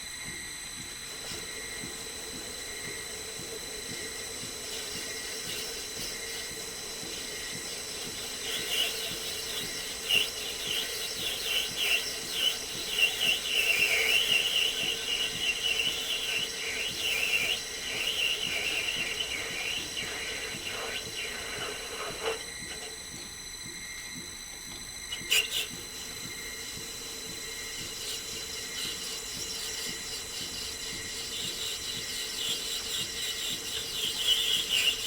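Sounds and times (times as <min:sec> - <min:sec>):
lathe motor whine: 0:00.0 - 0:35.0
chirping squeal of cutting tool: 0:01.2 - 0:23.1, 0:24.9 - 0:35.0.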